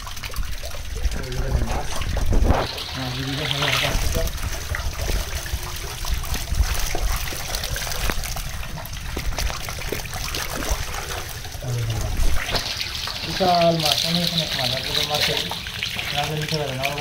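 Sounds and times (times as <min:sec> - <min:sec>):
fish splashing in shallow water: 0:00.0 - 0:17.0.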